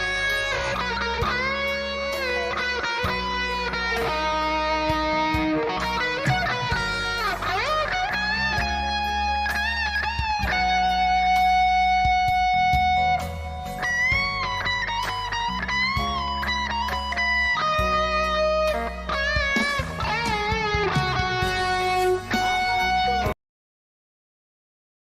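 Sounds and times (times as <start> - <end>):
electric guitar solo: 0.0 - 23.4
low accompaniment: 0.0 - 23.4.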